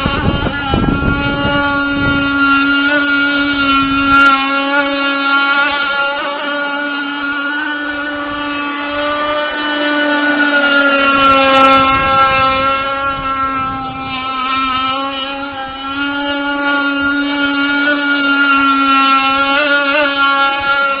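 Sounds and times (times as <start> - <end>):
racing boat engine buzzing: 0.0 - 21.0.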